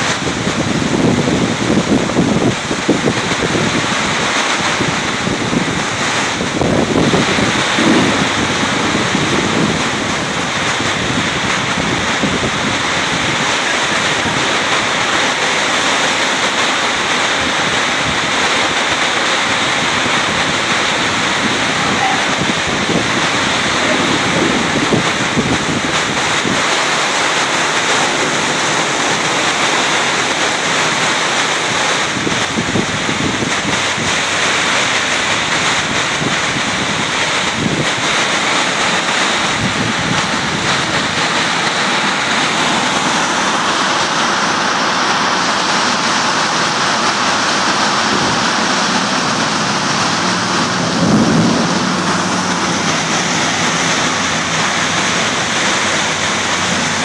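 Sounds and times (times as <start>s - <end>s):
wind buffeting microphone: 0.0s - 44.2s, 45.8s - 57.0s
torrential rain pouring: 0.0s - 57.0s.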